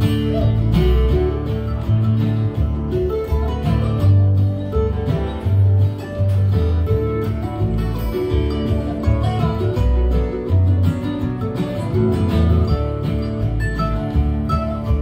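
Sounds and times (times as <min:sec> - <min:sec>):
bass line: 0:00.0 - 0:15.0
bluegrass band playing: 0:00.0 - 0:15.0.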